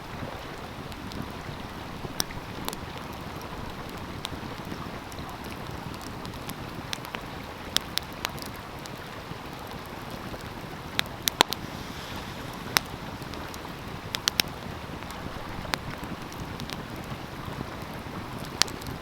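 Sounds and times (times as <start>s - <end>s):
stream rushing: 0.0s - 19.0s
wood fire crackling and popping: 0.6s - 19.0s.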